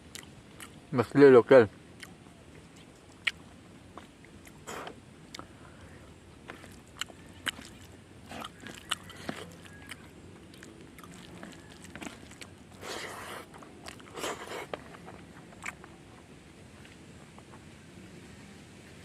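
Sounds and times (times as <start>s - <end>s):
person chewing food: 0.0s - 0.8s, 2.0s - 17.6s.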